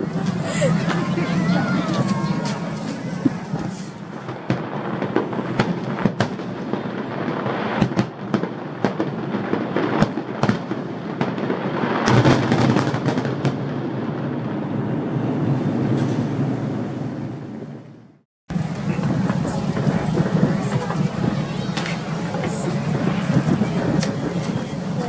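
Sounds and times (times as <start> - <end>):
fireworks crackling: 0.0 - 15.2, 18.5 - 25.0.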